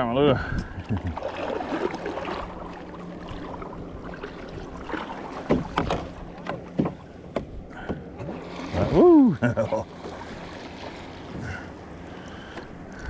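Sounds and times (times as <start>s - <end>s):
water washing around a kayak: 0.8s - 7.1s, 7.7s - 13.0s.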